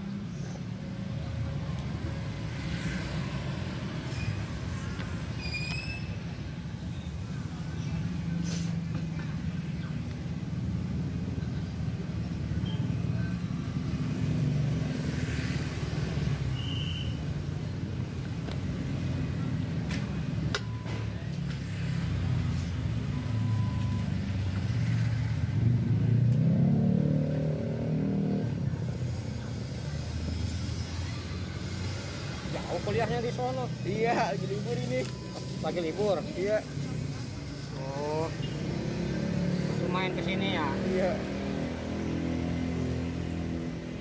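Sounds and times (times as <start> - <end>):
vehicle engines passing: 0.0 - 44.0.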